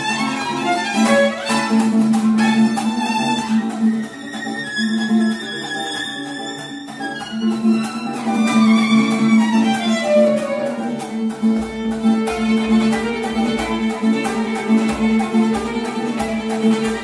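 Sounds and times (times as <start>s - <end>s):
strummed small guitar: 0.0s - 17.0s
violin playing lively tune: 0.0s - 17.0s.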